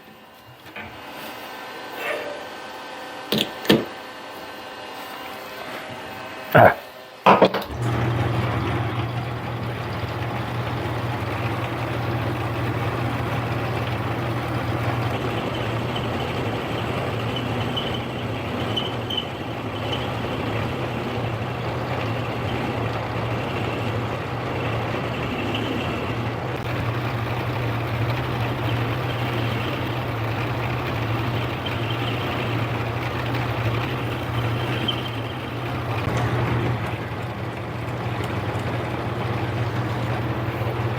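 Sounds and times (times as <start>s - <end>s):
metal lathe motor hum: 7.6s - 40.9s.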